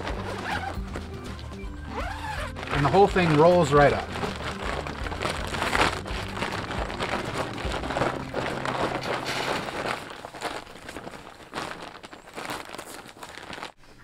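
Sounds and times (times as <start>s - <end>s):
plastic sheet crinkling: 0.0s - 14.0s.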